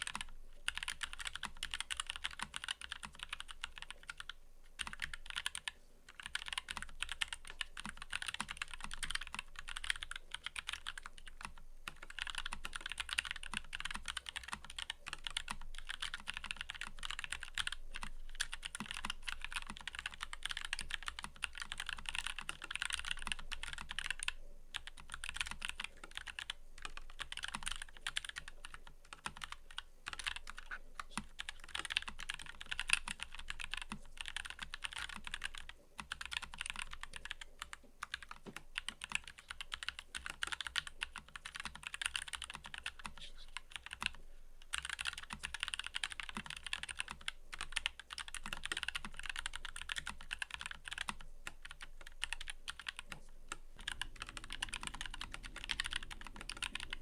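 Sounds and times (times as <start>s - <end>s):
typing on mechanical keyboard: 0.0s - 57.0s.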